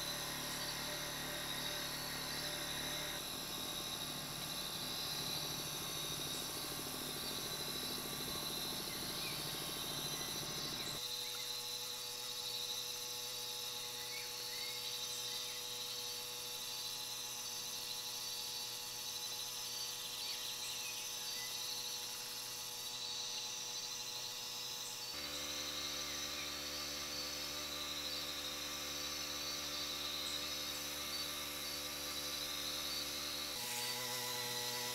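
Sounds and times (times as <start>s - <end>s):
insects shrilling: 0.0s - 34.9s.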